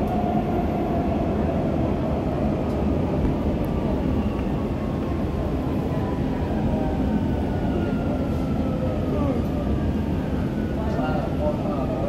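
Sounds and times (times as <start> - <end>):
faint train whine: 0.0 - 12.0
train wheels rumbling on rails: 0.0 - 12.0.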